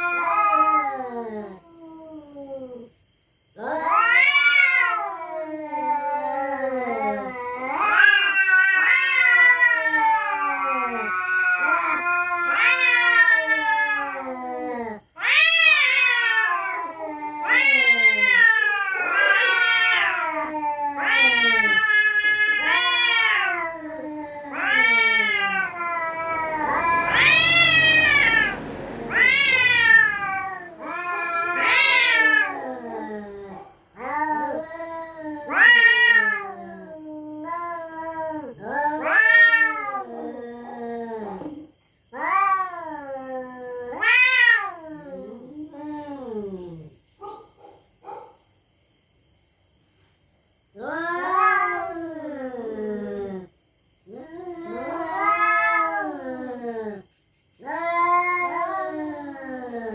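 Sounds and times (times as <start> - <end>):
cats yowling: 0.0 - 2.9, 3.6 - 46.9, 50.8 - 53.5, 54.1 - 59.9.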